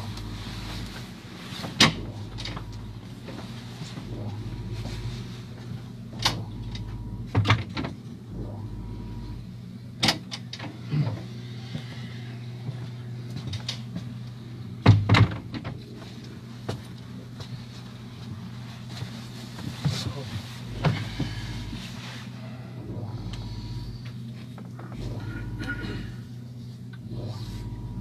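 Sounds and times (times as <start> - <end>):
train carriage hum: 0.0 - 28.0.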